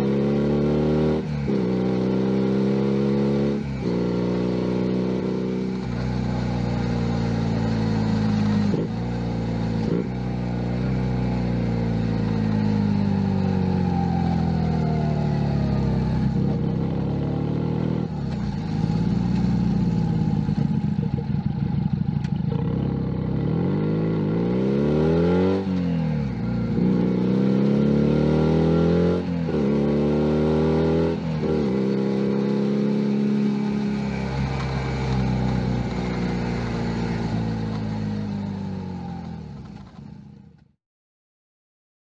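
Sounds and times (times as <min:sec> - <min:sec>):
motorcycle engine pulling away: 0:00.0 - 0:40.6.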